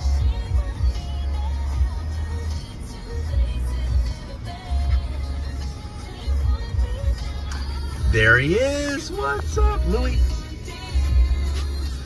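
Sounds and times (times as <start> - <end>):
music with deep held bass notes: 0.0 - 12.0.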